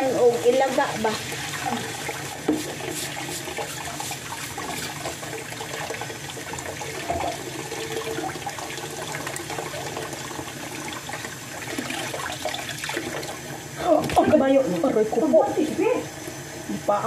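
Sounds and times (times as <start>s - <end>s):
water splashing in sink: 0.0s - 16.4s.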